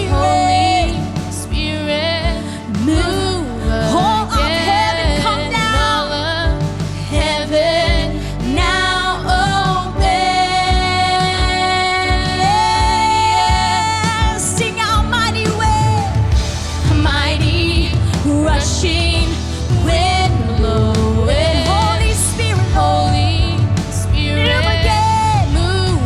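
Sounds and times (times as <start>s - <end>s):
live worship band music: 0.0s - 26.0s.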